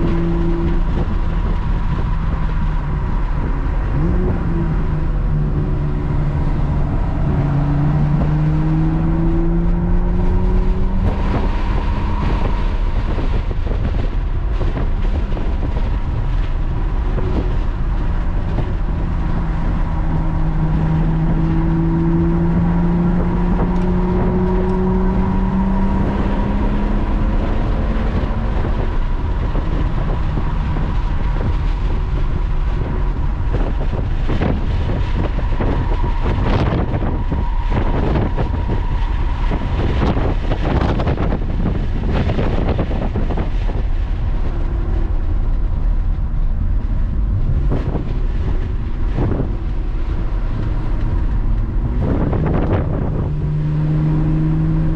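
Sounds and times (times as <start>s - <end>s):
car engine accelerating: 0.0s - 54.9s
tyre and wind noise: 0.0s - 54.9s.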